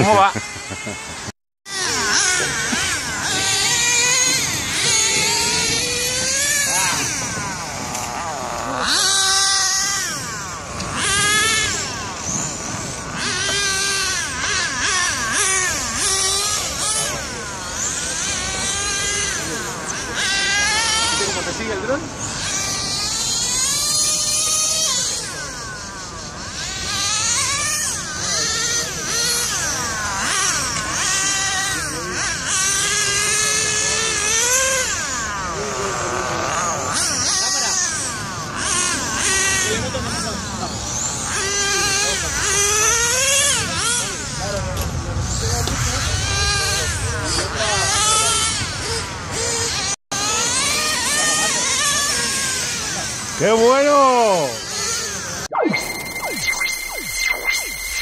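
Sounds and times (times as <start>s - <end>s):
rc car motors whining: 0.0s - 58.0s.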